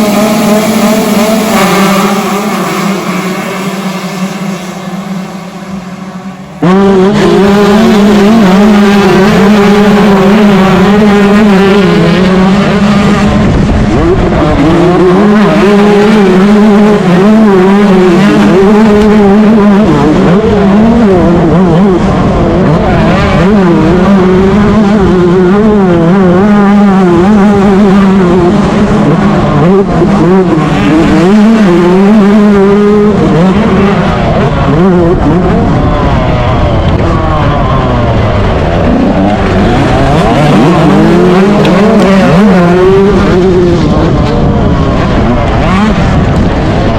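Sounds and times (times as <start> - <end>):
two-stroke motocross engine revving: 0.0 - 46.9.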